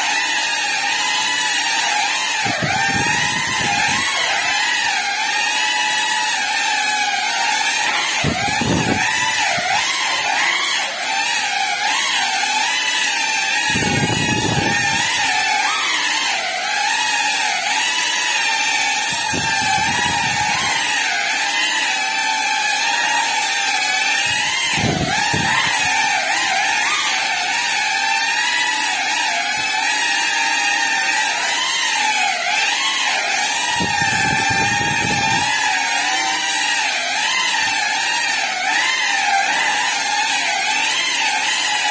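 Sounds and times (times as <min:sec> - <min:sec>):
quadcopter motors whining: 0:00.0 - 0:41.9.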